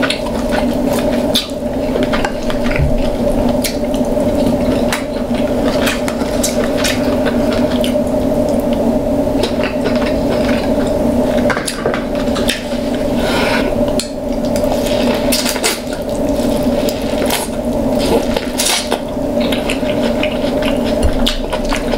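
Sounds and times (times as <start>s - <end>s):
steady hum: 0.0s - 21.9s.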